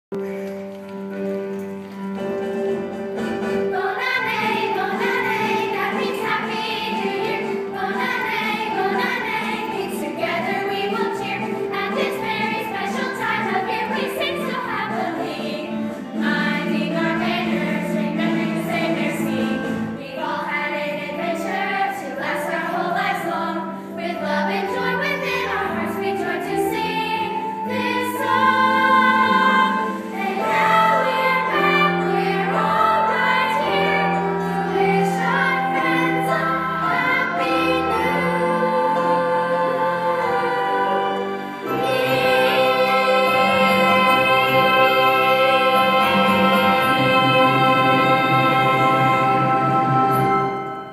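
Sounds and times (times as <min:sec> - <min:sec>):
instrumental accompaniment music: 0:00.1 - 0:50.9
children singing: 0:03.3 - 0:50.6.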